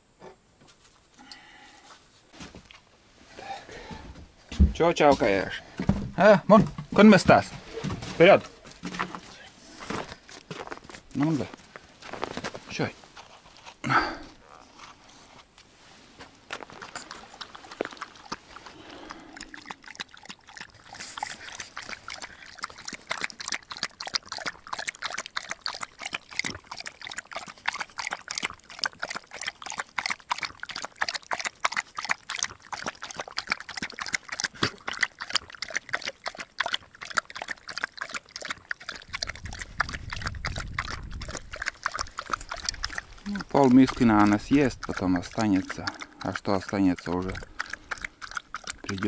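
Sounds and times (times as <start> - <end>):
dog eating and lapping noisily: 3.4 - 49.0.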